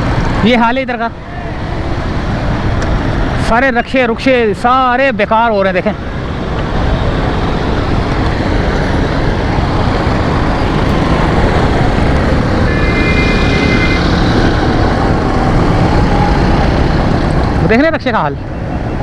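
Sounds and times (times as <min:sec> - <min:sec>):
motorcycle road noise: 0:00.0 - 0:19.0
wind rush: 0:00.0 - 0:19.0.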